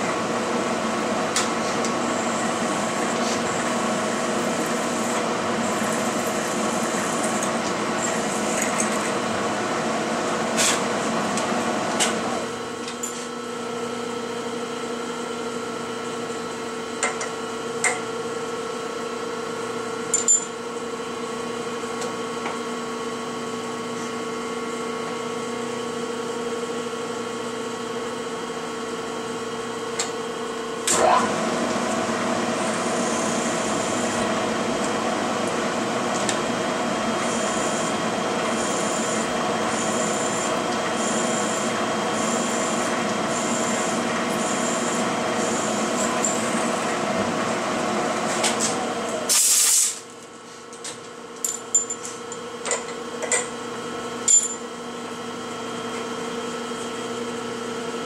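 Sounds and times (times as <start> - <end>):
milling machine humming: 0.0 - 49.3.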